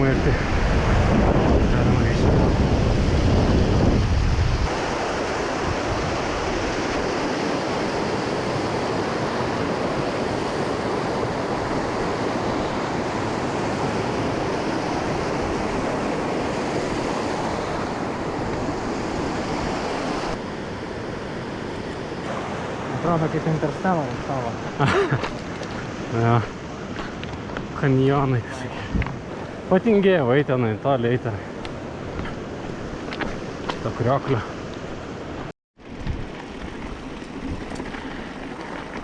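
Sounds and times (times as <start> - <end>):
rushing mountain water: 0.0 - 20.4, 22.2 - 39.0.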